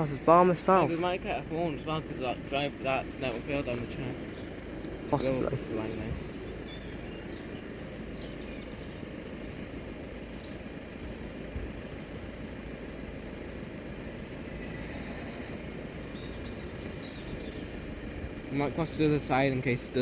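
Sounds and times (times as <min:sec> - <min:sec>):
birds chirping: 0:00.0 - 0:20.0
outdoor background rumble: 0:00.0 - 0:20.0.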